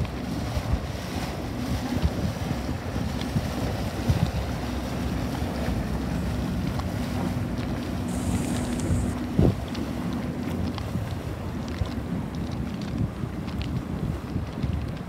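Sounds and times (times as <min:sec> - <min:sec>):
faint outboard motor hum: 0:00.0 - 0:15.0
wind buffeting microphone: 0:00.0 - 0:15.0.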